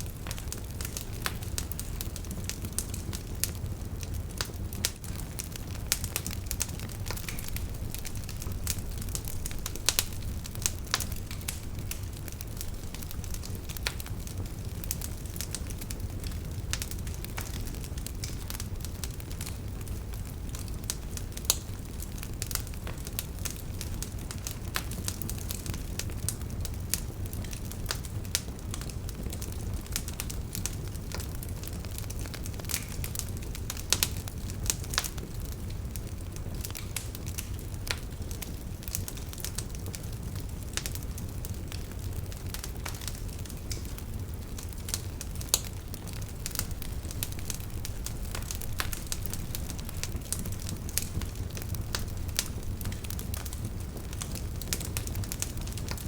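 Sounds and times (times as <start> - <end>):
low rumble of flames: 0.0 - 56.0
wood crackling and popping: 0.0 - 56.0.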